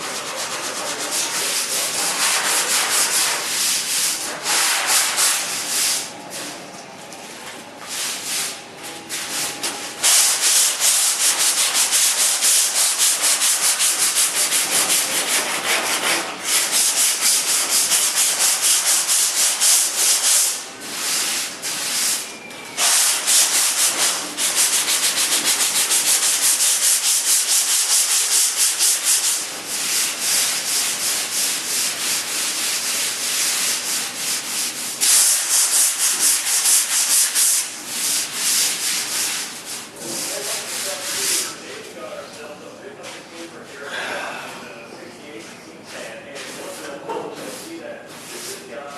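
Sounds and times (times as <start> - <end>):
sandpaper scraping metal panel: 0.0 - 6.1, 10.0 - 41.6, 46.4 - 48.7.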